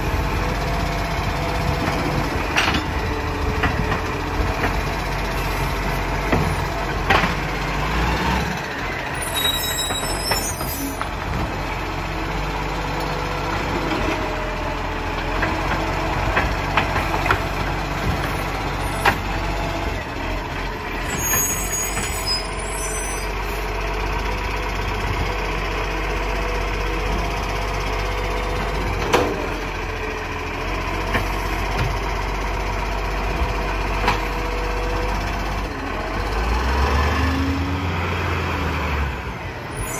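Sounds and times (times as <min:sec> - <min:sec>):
garbage truck engine hum: 0:00.0 - 0:39.9.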